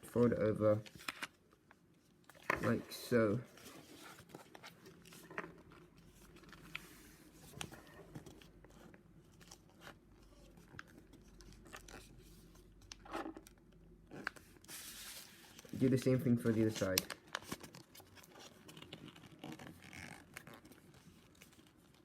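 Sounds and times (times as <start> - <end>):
paper being folded and creased: 0.7 - 13.1, 14.1 - 22.0.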